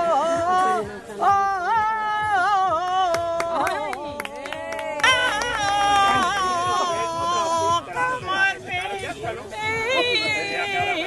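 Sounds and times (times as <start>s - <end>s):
person singing unaccompanied: 0.0s - 11.0s.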